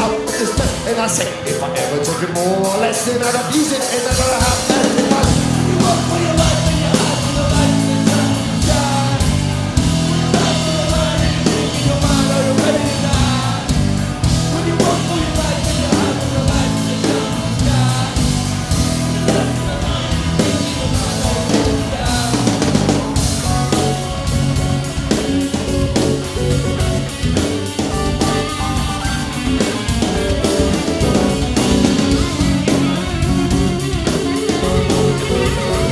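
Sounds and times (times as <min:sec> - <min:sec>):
bass: 0:00.0 - 0:35.9
electric guitar: 0:00.0 - 0:35.9
steady drum beat: 0:00.0 - 0:35.9
synthesizers: 0:00.0 - 0:35.9.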